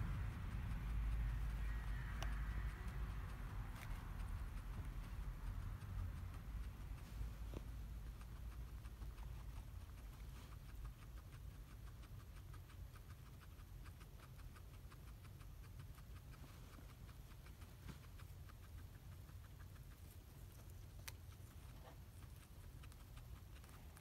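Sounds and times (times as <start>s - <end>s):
guinea pig chewing hay: 0.0s - 24.0s.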